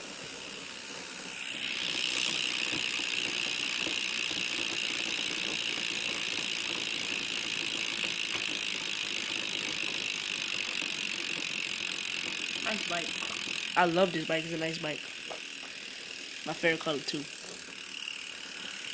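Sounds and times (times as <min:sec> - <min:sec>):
bicycle hub ratcheting: 0:00.0 - 0:18.9.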